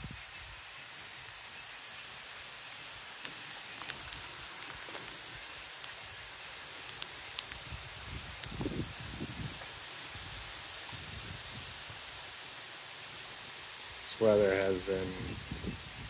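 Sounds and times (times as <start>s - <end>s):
night ambience hiss: 0.0s - 16.0s.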